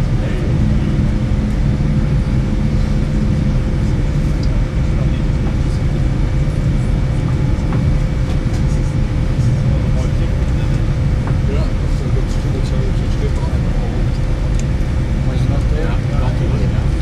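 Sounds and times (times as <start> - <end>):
aircraft cabin low rumble: 0.0 - 17.0.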